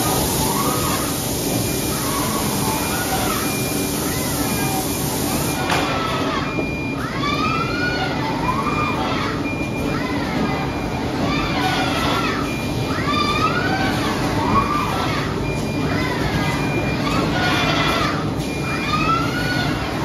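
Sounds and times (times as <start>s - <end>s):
factory machinery noise: 0.0s - 20.0s.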